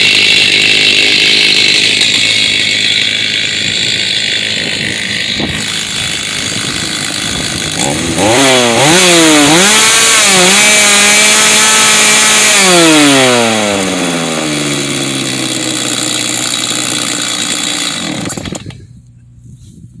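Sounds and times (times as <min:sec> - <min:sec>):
chainsaw idling and revving: 0:00.0 - 0:18.8.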